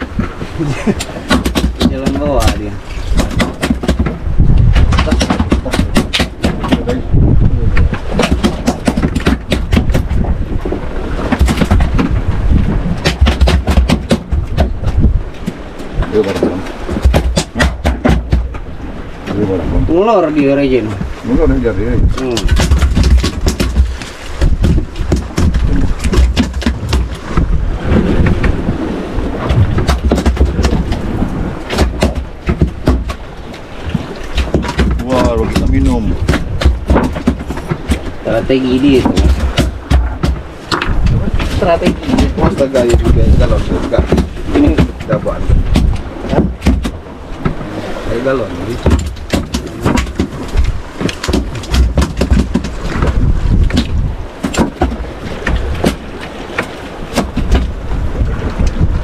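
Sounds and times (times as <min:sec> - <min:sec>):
sharp clicks and knocks: 0:00.0 - 0:07.0, 0:07.8 - 0:10.3, 0:11.3 - 0:12.2, 0:13.0 - 0:18.6, 0:22.1 - 0:27.6, 0:29.4 - 0:31.0, 0:31.6 - 0:38.1, 0:39.0 - 0:47.6, 0:48.7 - 0:57.8
wind rumble on microphone: 0:00.0 - 0:59.0.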